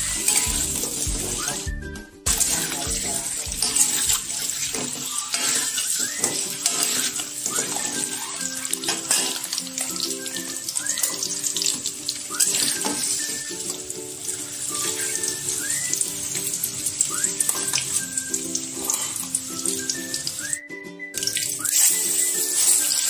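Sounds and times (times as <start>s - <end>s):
eggs sizzling in hot oil: 0.0s - 1.7s, 2.3s - 20.6s, 21.2s - 23.0s
background music: 0.0s - 23.0s.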